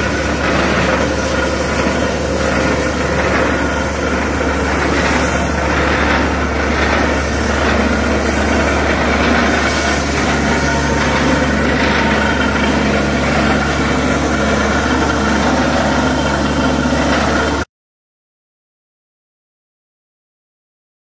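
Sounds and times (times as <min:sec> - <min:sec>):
drilling rig mechanical din: 0:00.0 - 0:17.6.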